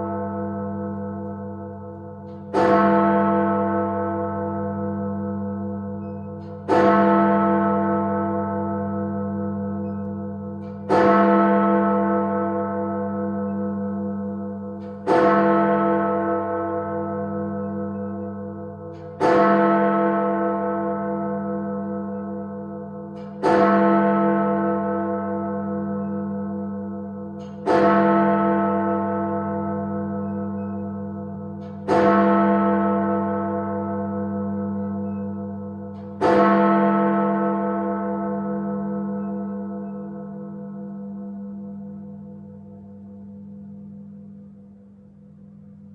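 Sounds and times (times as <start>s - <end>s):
large clock bell striking: 0.0s - 45.9s.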